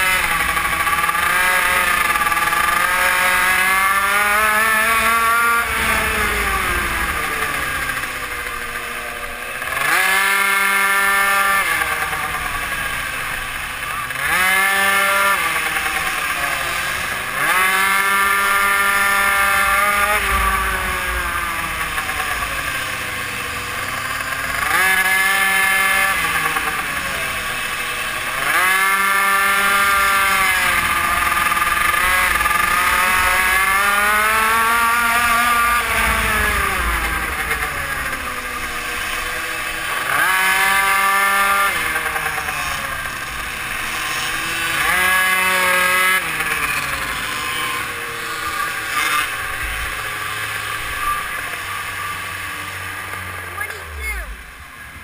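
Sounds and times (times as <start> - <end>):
mini moto engine revving: 0.0 - 55.0.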